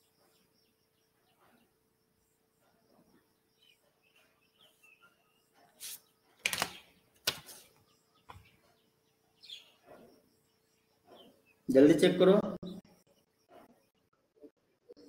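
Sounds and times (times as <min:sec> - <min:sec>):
faint chirping: 0:00.0 - 0:15.0.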